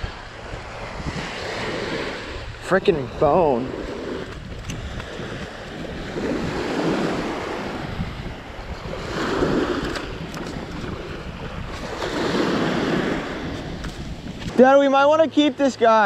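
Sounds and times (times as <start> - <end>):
wind rumbling on microphone: 0.0 - 15.6
small waves breaking on a beach: 0.0 - 16.0.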